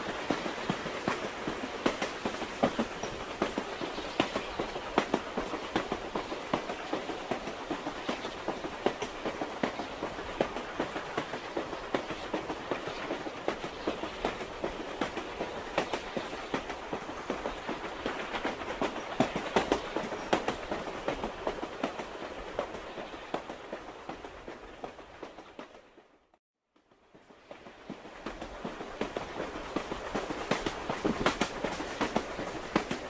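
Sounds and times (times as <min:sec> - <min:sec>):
wheel clicks and clatter on rails: 0:00.0 - 0:25.8, 0:27.1 - 0:33.0
train rumbling on track: 0:00.0 - 0:26.1, 0:27.0 - 0:33.0.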